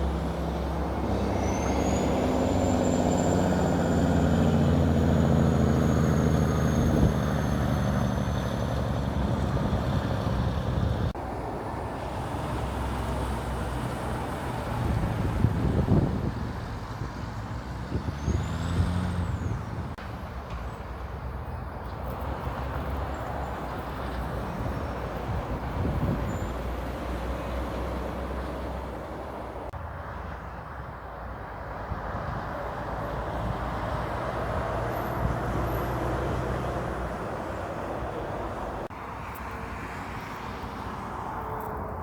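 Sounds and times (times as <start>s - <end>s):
trucks and traffic passing: 0.0s - 42.0s.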